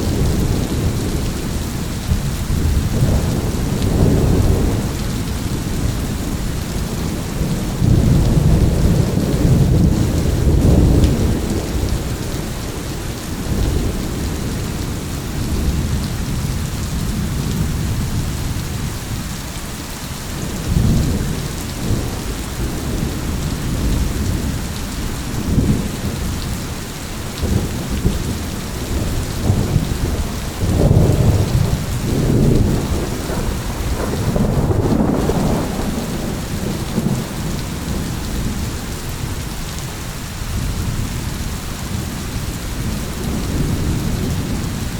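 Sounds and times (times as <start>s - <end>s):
rolling thunder: 0.0s - 18.9s, 20.4s - 39.5s, 40.5s - 44.9s
steady rain: 0.0s - 44.9s.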